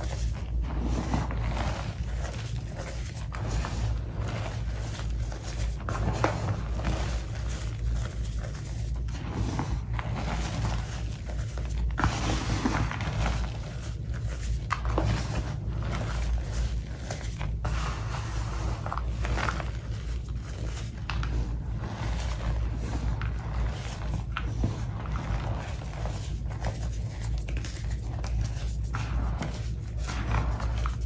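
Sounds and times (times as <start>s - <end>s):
chalk crunching by hand: 0.0s - 31.0s
powdery scrapes: 0.0s - 31.0s.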